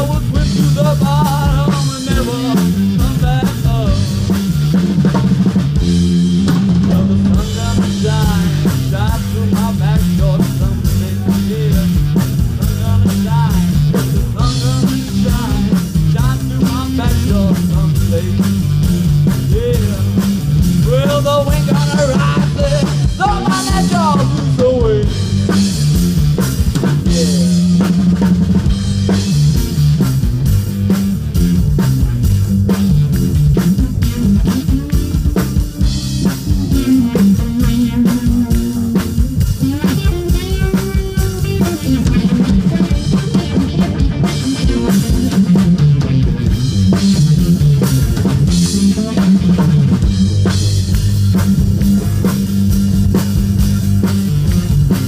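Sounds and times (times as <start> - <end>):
drum kit: 0.0 - 55.0
electric guitar: 0.0 - 55.0
heavy low notes: 0.0 - 55.0.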